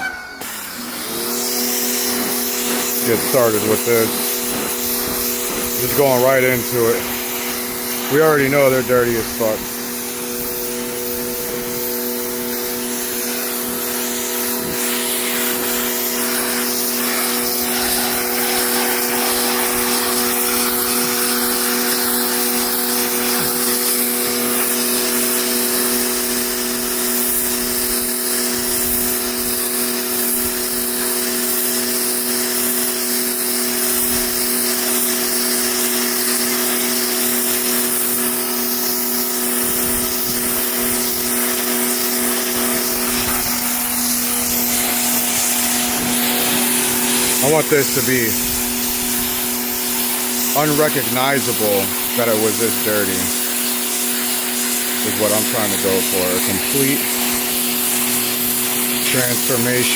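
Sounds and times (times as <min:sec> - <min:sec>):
pressure washer motor humming: 0:00.0 - 0:59.9
water jet spraying fabric: 0:00.0 - 0:59.9.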